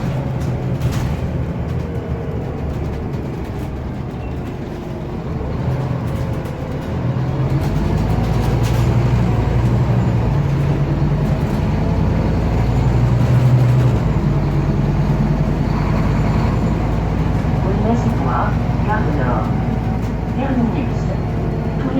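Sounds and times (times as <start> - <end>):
bus engine hum: 0.0 - 21.9
road noise: 0.0 - 21.9.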